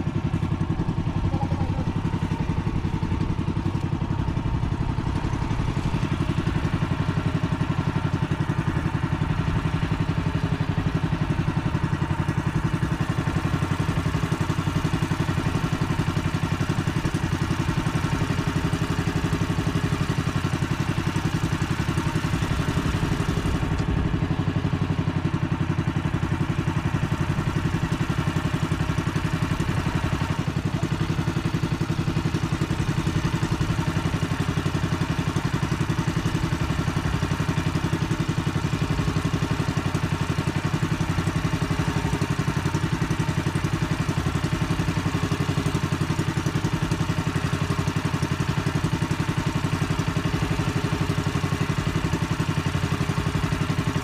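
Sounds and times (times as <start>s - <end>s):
boat engine chugging: 0.0s - 54.0s.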